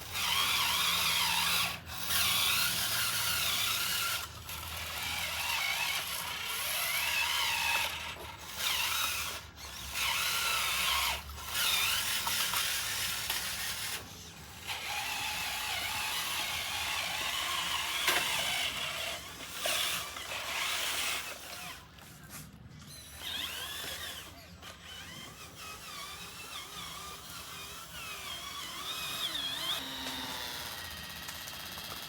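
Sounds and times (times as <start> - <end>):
small electric motors whining: 0.0 - 32.0.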